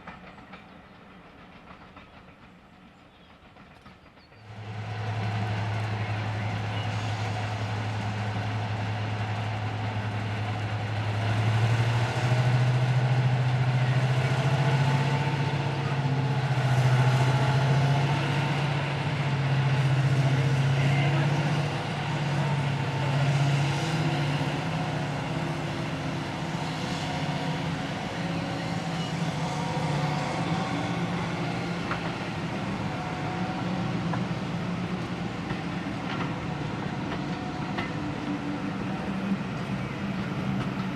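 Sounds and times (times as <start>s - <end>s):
diesel locomotive engine droning: 0.0s - 40.9s.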